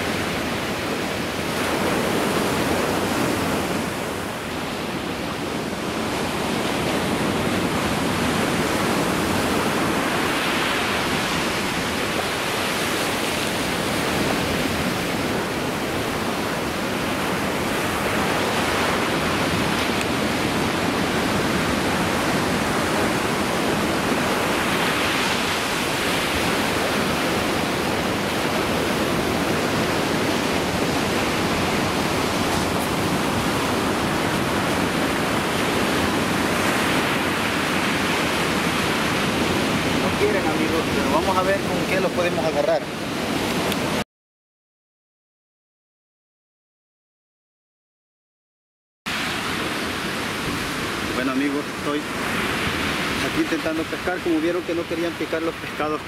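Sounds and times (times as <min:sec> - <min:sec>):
surf breaking on beach: 0:00.0 - 0:44.0, 0:49.1 - 0:56.0.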